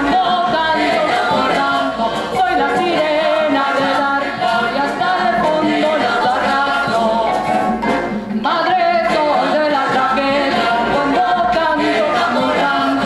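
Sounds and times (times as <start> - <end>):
woman singing: 0.0 - 7.3, 8.3 - 13.0
marimba: 0.0 - 13.0.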